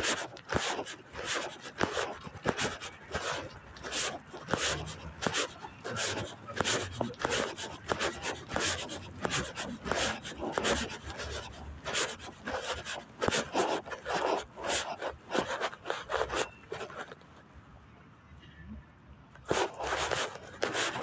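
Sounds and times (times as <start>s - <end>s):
rubbing and scuffing of walking: 0.0s - 17.4s, 19.4s - 21.0s.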